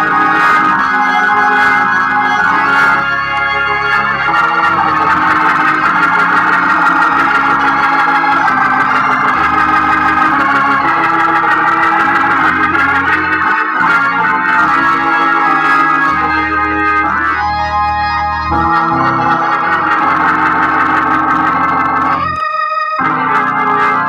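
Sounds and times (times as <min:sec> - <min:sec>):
organ bass line: 0:00.0 - 0:24.0
organ chords: 0:00.0 - 0:24.0.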